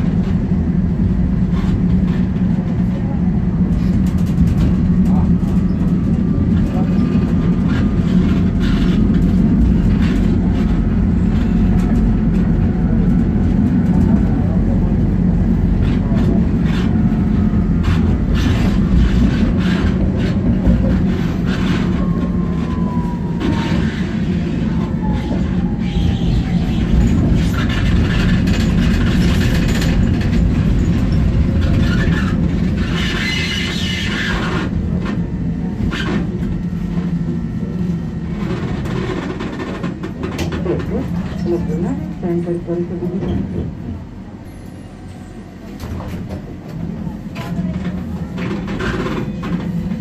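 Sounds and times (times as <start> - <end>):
tram wheels rumbling on rails: 0.0 - 50.0.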